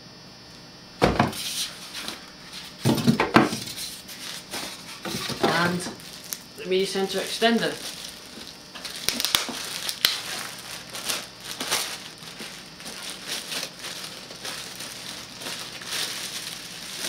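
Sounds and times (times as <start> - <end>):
plastic wrapping crinkling: 1.4 - 17.0.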